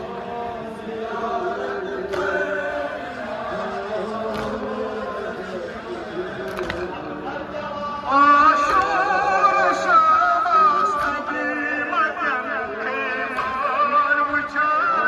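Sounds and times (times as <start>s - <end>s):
man singing lament over loudspeakers: 0.0s - 15.0s.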